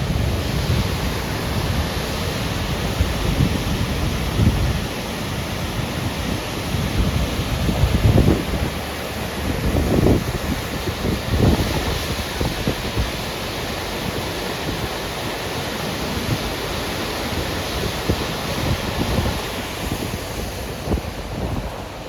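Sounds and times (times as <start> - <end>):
waterfall roaring: 0.0 - 22.0
wind gusting against microphone: 0.0 - 22.0.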